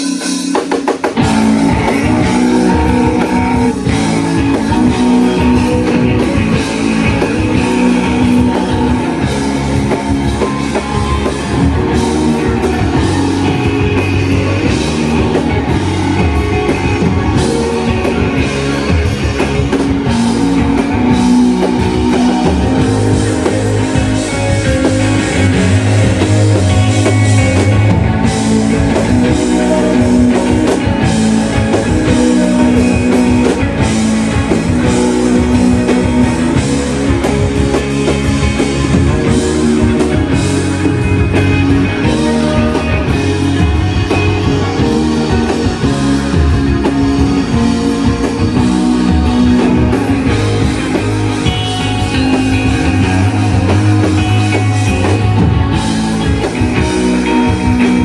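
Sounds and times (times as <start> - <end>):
distorted electric guitars: 0.0 - 58.0
rock band playing loud: 0.0 - 58.0.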